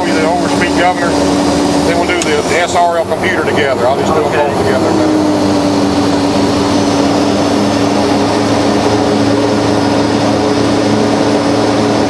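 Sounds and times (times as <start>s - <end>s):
high turbine whine: 0.0s - 12.0s
turboprop engine droning: 0.0s - 12.0s.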